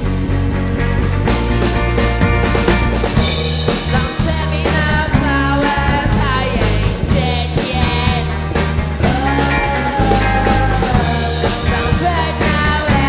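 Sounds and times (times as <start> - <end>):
garage rock band playing: 0.0 - 13.0.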